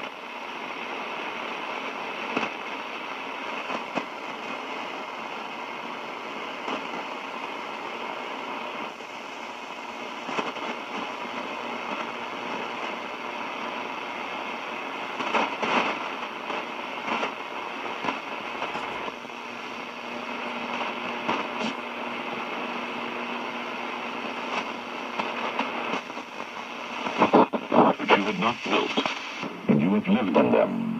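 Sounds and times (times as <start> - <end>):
shortwave radio static hiss: 0.0 - 30.9.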